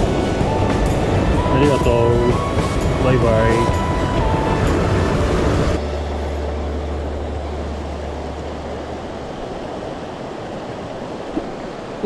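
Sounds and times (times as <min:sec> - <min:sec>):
low rumble: 0:00.0 - 0:10.1
stream rushing over rocks: 0:00.0 - 0:12.0.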